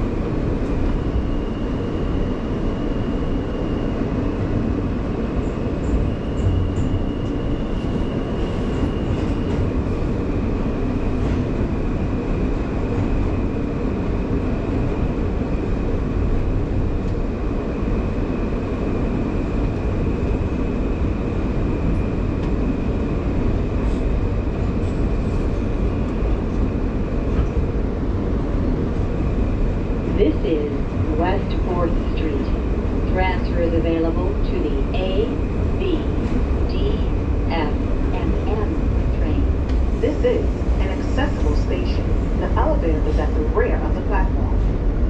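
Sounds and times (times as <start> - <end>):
high-pitched train whine: 0.0 - 45.0
subway train rolling rumble: 0.0 - 45.0.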